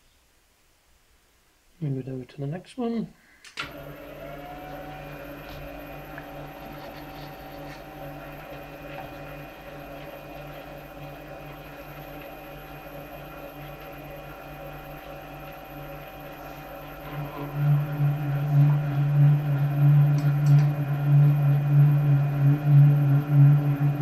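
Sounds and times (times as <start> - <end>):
lathe motor and gear whine: 3.6 - 24.0.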